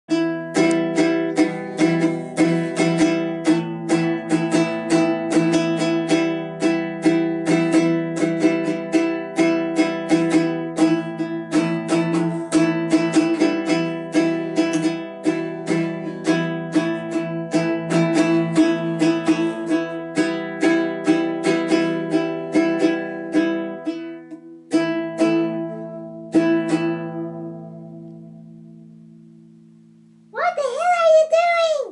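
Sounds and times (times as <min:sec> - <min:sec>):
acoustic guitar strumming: 0:00.1 - 0:31.7.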